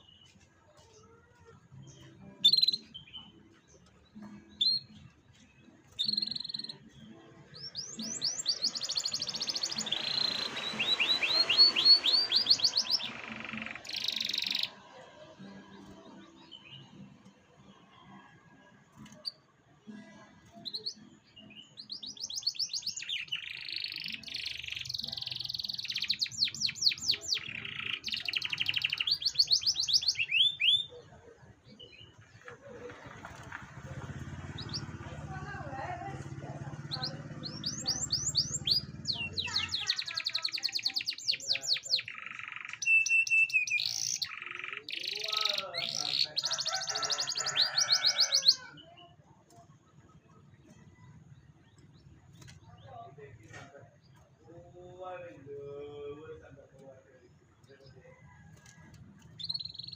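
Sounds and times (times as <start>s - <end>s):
canary singing trills: 1.7s - 17.2s, 20.4s - 32.2s, 33.3s - 53.1s, 57.6s - 59.9s.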